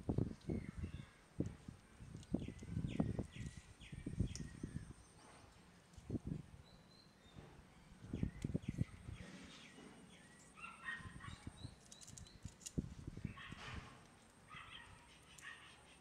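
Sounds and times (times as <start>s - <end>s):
birds chirping faintly: 0.1s - 16.0s.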